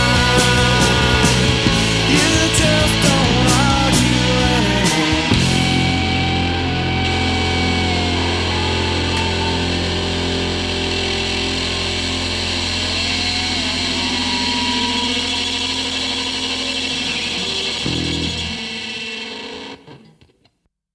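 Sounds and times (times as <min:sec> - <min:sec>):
distorted electric guitars droning: 0:00.0 - 0:20.3
guitar feedback tones: 0:00.0 - 0:20.3.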